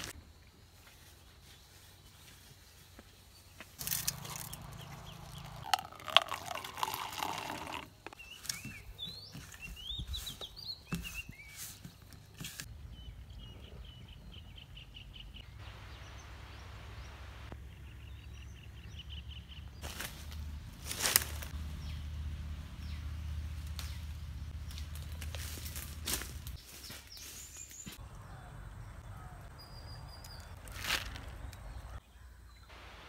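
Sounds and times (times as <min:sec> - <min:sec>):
steady outdoor hum: 0:00.0 - 0:26.8
small birds chirping: 0:00.8 - 0:32.8.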